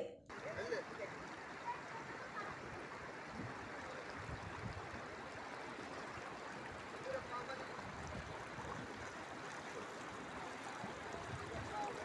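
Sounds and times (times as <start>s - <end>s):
floodwater rushing: 0.3s - 12.0s.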